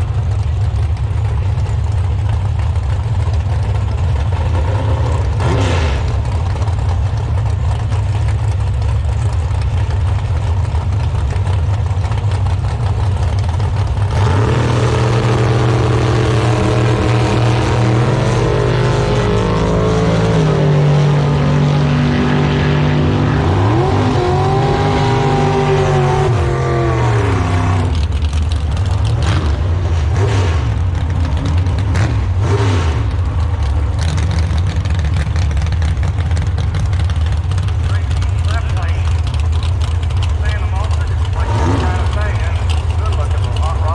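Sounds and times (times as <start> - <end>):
race car engines idling: 0.0 - 43.9
engine revving: 4.2 - 8.0, 11.5 - 43.9.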